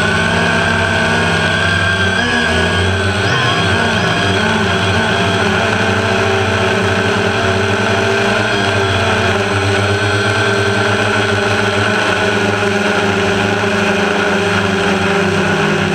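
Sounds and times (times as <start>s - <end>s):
drone propellers whining: 0.0s - 15.9s.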